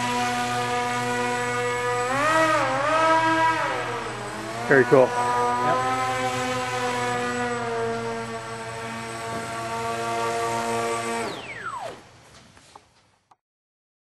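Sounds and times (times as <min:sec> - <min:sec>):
model jet electric motor whine: 0:00.0 - 0:12.1.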